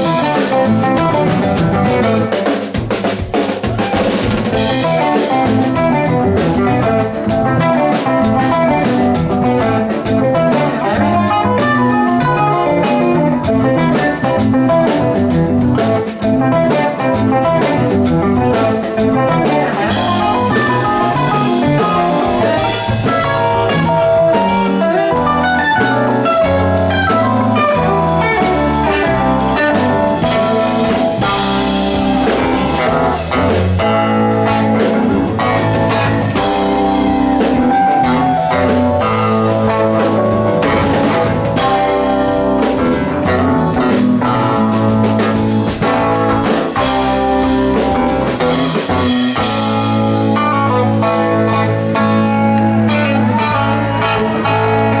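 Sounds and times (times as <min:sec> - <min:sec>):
drum kit: 0:00.0 - 0:55.0
electric bass: 0:00.0 - 0:55.0
electric guitars: 0:00.0 - 0:55.0
keyboards: 0:00.0 - 0:55.0.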